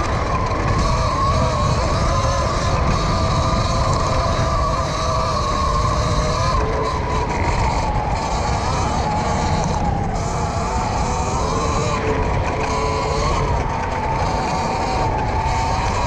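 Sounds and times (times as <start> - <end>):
electric motor whining: 0.0 - 16.0
wind rumble on microphone: 0.0 - 16.0.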